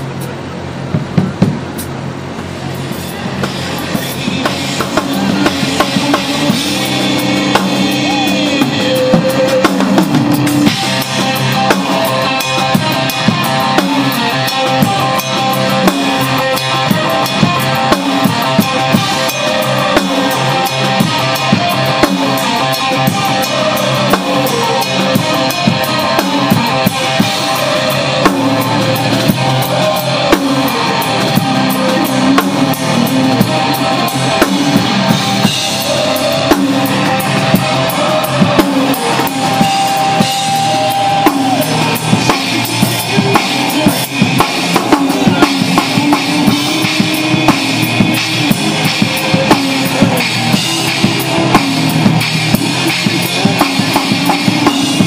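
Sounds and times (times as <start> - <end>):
drum kit: 0.0 - 55.0
electric guitar: 0.0 - 55.0
rock band playing: 0.0 - 55.0.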